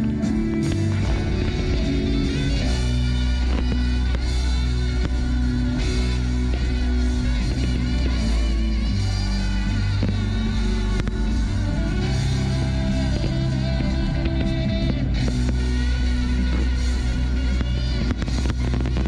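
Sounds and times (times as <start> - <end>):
rock music with strong bass: 0.0 - 19.0.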